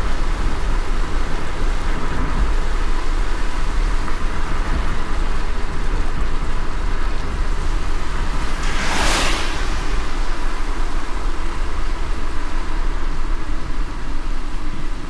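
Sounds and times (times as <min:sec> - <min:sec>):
car road rumble: 0:00.0 - 0:15.0
rain hiss: 0:00.0 - 0:15.0.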